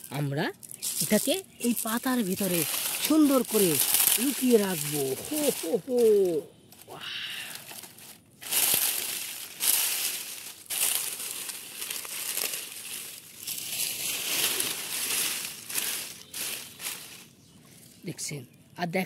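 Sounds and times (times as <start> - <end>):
dry leaves crunching and rustling: 0.0 - 17.9.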